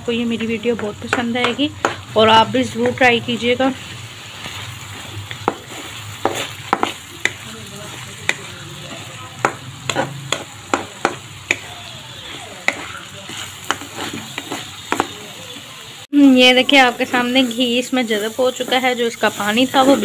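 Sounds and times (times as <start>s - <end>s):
lentils sizzling in pan: 0.0s - 20.0s
spatula scraping pan: 0.2s - 15.2s, 18.2s - 20.0s.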